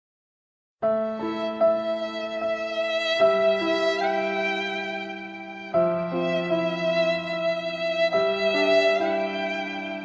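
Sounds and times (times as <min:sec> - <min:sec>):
slow sad music: 0:00.8 - 0:10.0.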